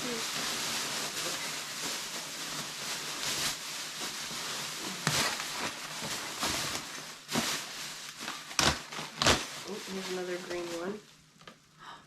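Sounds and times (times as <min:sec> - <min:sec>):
bags rustling: 0:00.0 - 0:11.1.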